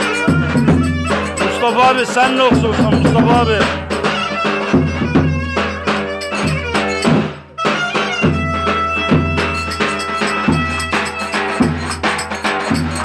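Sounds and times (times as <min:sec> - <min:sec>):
folk dance music: 0:00.0 - 0:13.0
steady drum beat: 0:00.0 - 0:13.0
sustained melody instrument: 0:00.0 - 0:13.0.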